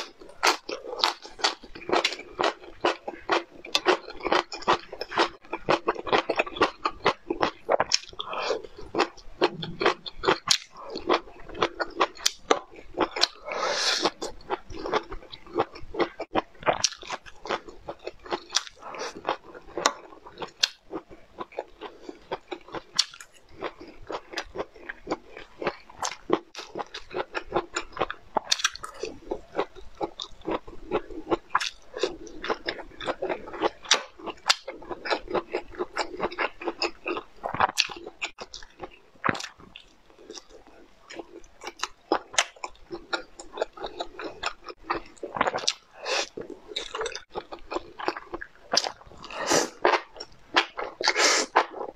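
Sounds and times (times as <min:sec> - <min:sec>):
crunching and chewing food: 0:00.0 - 0:51.9.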